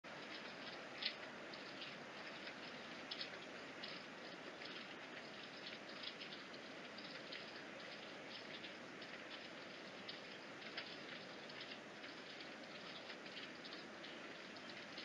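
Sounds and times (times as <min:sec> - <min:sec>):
faint scratchy ticks: 0:00.1 - 0:15.0
steady low hiss: 0:00.1 - 0:15.0.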